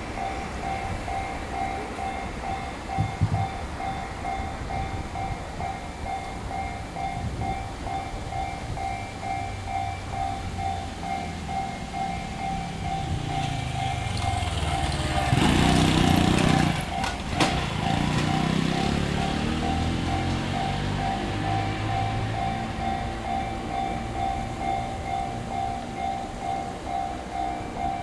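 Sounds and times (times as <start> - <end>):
level-crossing warning bell: 0.0 - 28.0
train rumble: 0.0 - 28.0.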